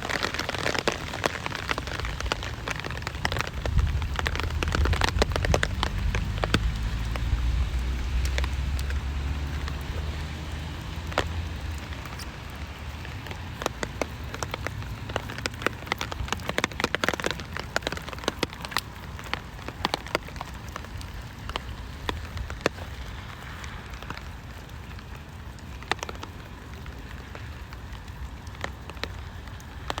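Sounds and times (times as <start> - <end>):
raindrops ticking on hard surface: 0.0 - 30.0
steady hiss of rainfall: 0.0 - 30.0.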